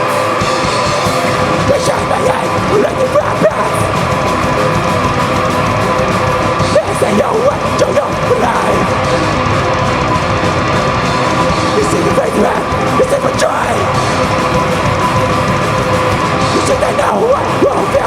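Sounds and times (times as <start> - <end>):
heavy band playing distorted music: 0.0 - 18.0
shouted vocals: 1.1 - 15.0, 16.2 - 18.0.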